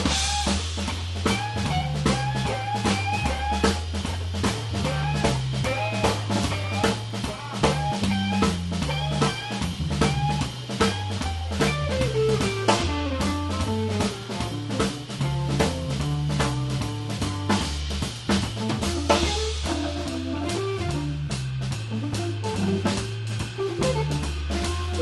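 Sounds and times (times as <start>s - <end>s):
drum kit with ride cymbal: 0.0s - 25.0s
electric guitar lines: 0.0s - 25.0s
organ bass line: 0.0s - 25.0s.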